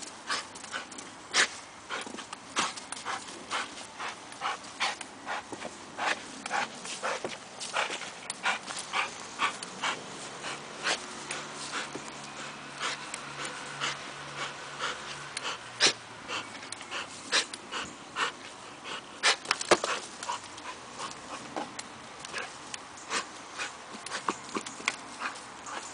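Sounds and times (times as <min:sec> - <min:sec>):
dog panting hard: 0:00.1 - 0:21.7, 0:22.3 - 0:25.9.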